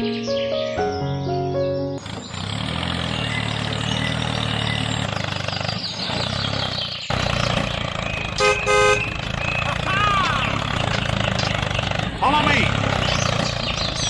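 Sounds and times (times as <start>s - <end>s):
engine humming: 0.0s - 14.0s
engine-like background noise: 1.9s - 14.0s.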